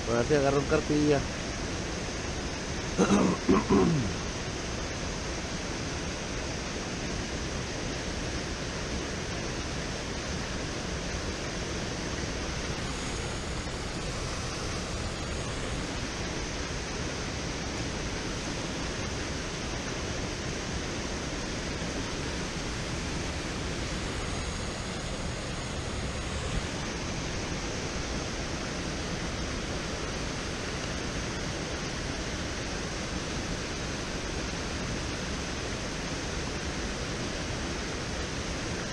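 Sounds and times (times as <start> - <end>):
water rushing from dam outflow: 0.0 - 38.9.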